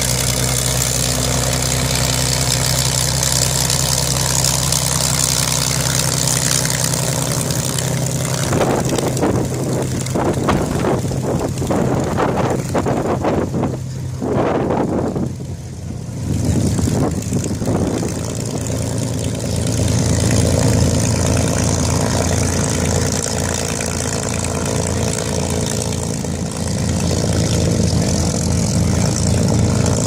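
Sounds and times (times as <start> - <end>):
piston aero engines droning: 0.0 - 30.0.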